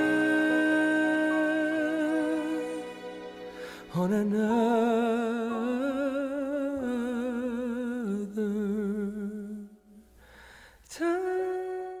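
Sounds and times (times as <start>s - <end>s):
solo voice singing held notes: 0.0s - 10.0s.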